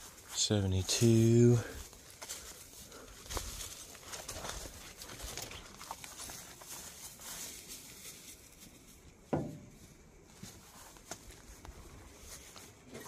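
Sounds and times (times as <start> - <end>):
footsteps crunching through dry grass: 0.0 - 13.0.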